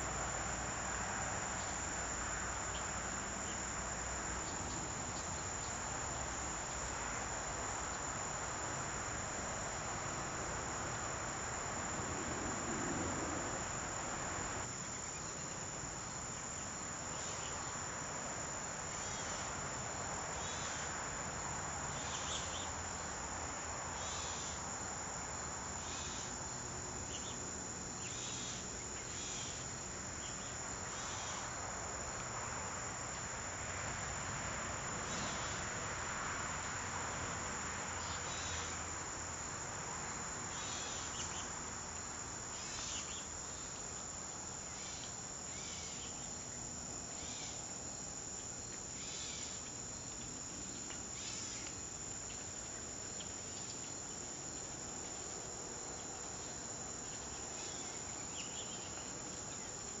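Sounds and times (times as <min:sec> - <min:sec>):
crickets trilling: 0:00.0 - 1:00.0.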